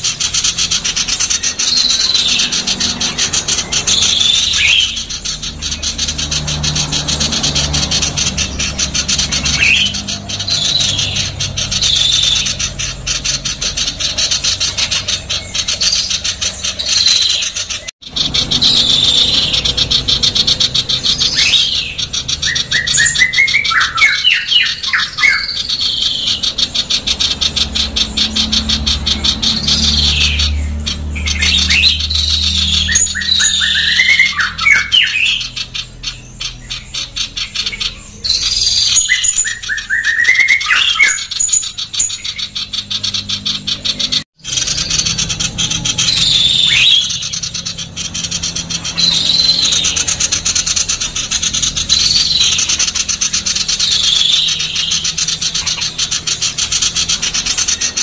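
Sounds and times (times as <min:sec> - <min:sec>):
bird harsh rasping chatter: 0:00.0 - 0:58.0.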